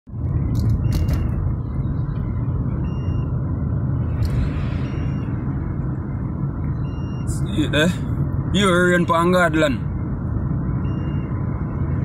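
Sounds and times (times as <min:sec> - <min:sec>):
car engine and tyre rumble: 0:00.1 - 0:12.0.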